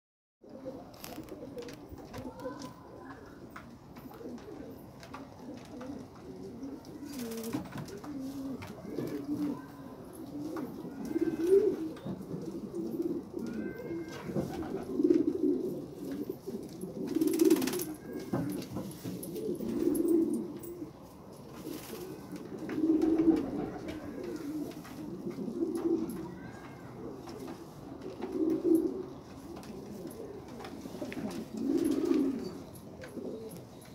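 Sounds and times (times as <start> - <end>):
pigeons cooing: 0.4 - 33.9.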